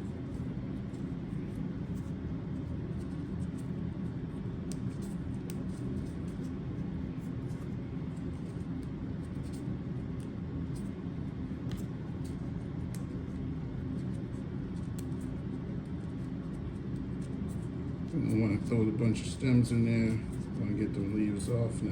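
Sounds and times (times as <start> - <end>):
low machine hum: 0.0 - 21.9.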